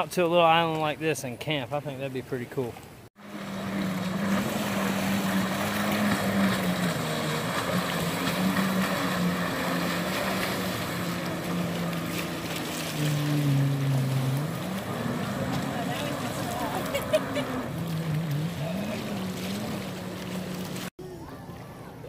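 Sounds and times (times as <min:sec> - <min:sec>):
jet ski engine droning: 0:03.2 - 0:22.0.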